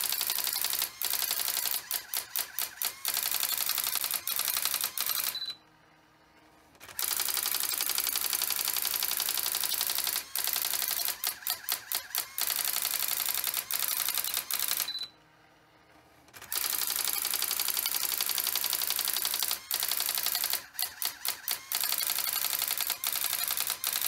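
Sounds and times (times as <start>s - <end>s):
typewriter rattling: 0.0s - 5.4s, 6.8s - 15.0s, 16.4s - 24.0s.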